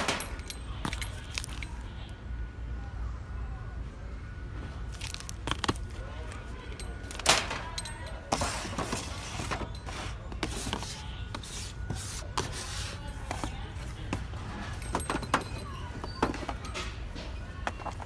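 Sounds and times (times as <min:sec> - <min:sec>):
toy boxes being handled: 0:00.0 - 0:01.9, 0:04.9 - 0:18.0
steady low hum: 0:00.0 - 0:18.0.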